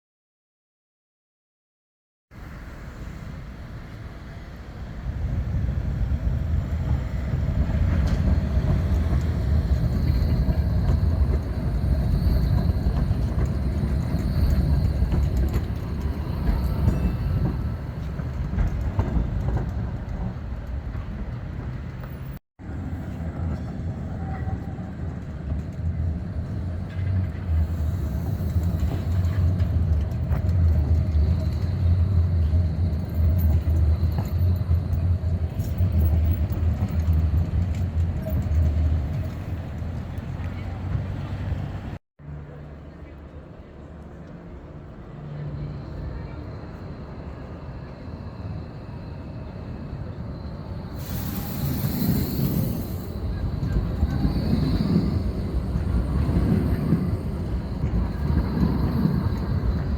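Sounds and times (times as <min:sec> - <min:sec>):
tram rumbling on track: 0:02.4 - 0:59.9.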